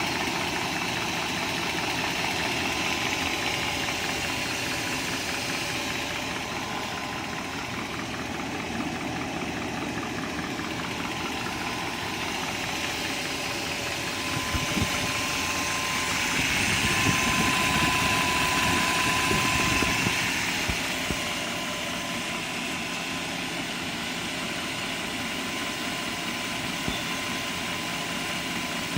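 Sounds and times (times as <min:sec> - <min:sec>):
car engine running: 0:00.0 - 0:28.9
fast even engine rattle: 0:00.0 - 0:28.9.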